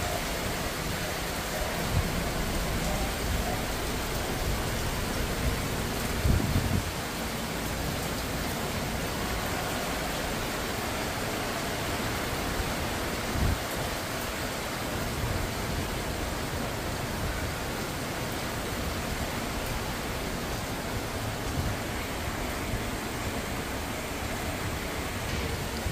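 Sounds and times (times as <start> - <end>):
heavy rain on leaves: 0.0 - 25.9
wind: 0.0 - 25.9.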